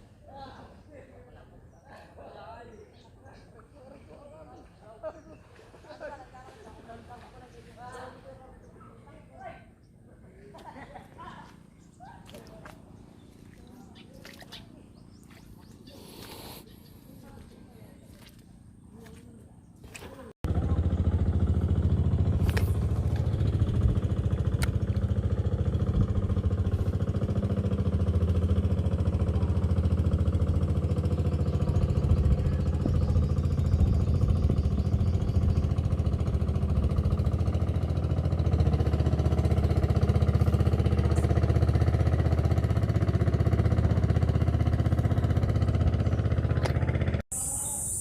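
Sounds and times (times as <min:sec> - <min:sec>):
small engine droning: 0:03.2 - 0:48.0.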